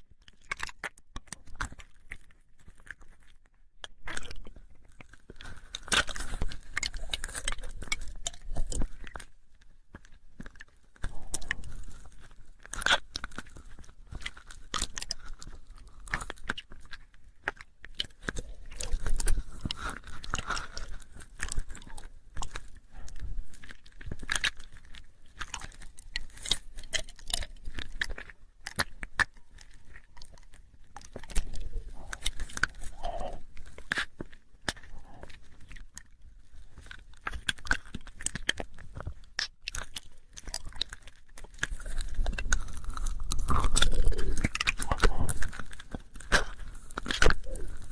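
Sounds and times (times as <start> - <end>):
wet lip and tongue clicks: 0.2 - 9.3, 10.0 - 47.9.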